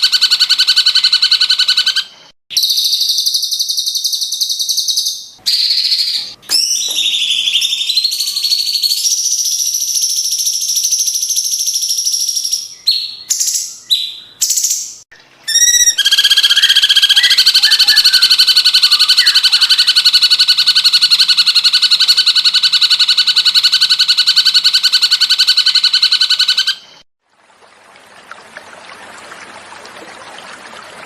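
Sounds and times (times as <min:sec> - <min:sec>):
bird calls and pulsing trill: 0:00.0 - 0:27.0.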